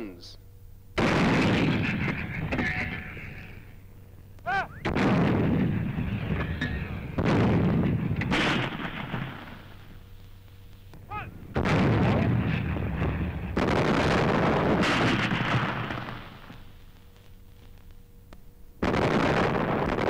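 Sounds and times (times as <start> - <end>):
artillery guns firing: 1.0 - 17.8, 18.8 - 20.0.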